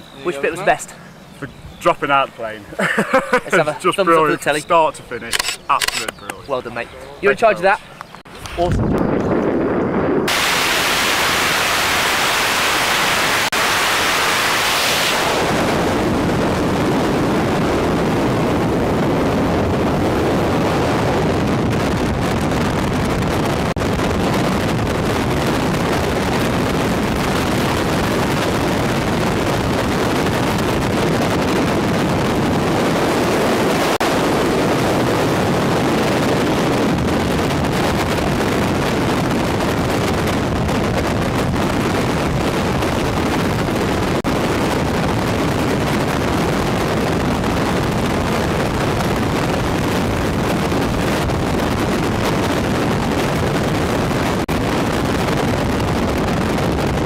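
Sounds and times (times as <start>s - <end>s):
freefall wind rushing: 6.6s - 57.0s.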